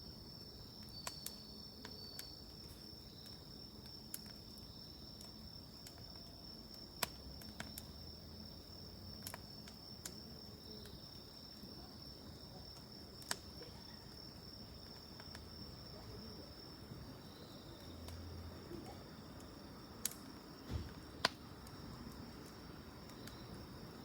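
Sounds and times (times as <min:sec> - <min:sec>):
campfire wood crackling: 0:00.0 - 0:24.0
high insect trill: 0:00.0 - 0:24.0.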